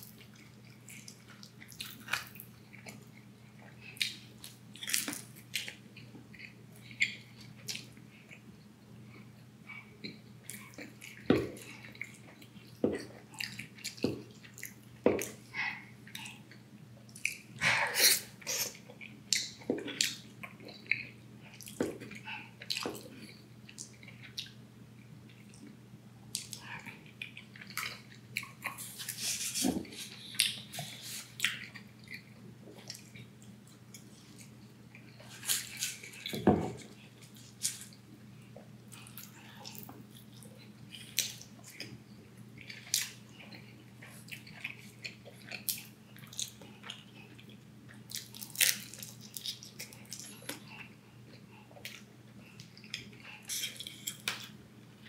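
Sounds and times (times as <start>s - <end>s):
faint steady hum: 0.0s - 55.0s
person chewing food: 0.0s - 55.0s.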